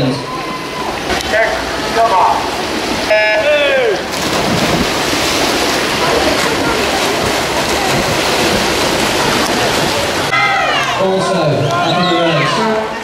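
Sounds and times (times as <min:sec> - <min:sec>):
spectators shouting and cheering: 0:00.0 - 0:04.1, 0:05.8 - 0:13.0
swimmers splashing: 0:00.0 - 0:13.0.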